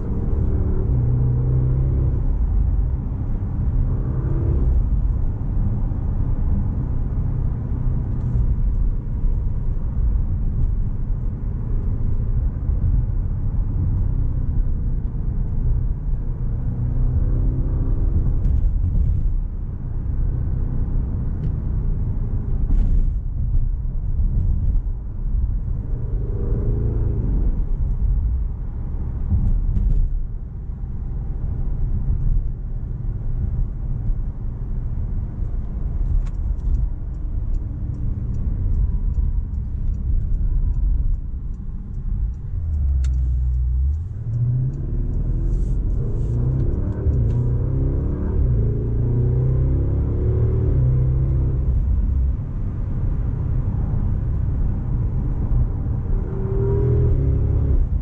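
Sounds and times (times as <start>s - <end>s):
road and wind rumble: 0.0s - 58.0s.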